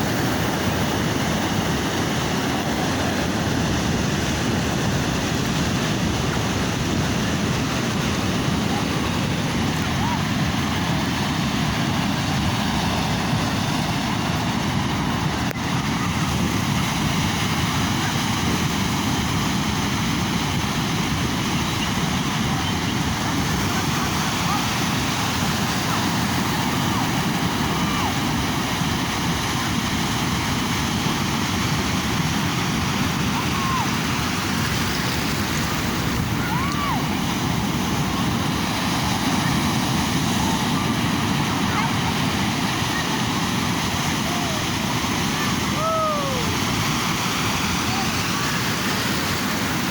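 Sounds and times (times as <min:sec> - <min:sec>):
sea waves and surf rushing: 0:00.0 - 0:49.9
wind buffeting microphone: 0:00.0 - 0:49.9.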